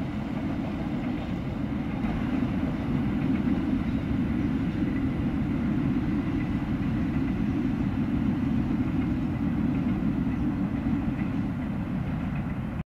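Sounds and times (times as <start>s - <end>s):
distant train rumbling: 0.0s - 12.8s.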